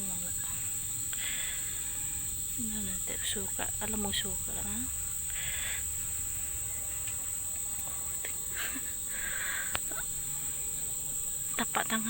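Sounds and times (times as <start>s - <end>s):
faint rustles: 0.0s - 12.0s
high-pitched insect chorus: 0.0s - 12.0s.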